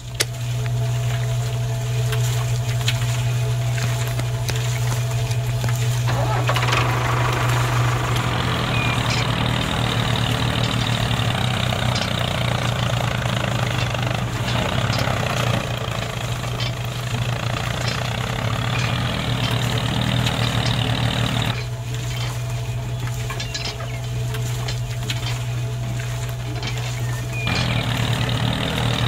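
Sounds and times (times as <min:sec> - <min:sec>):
small motor droning: 0:00.0 - 0:29.0.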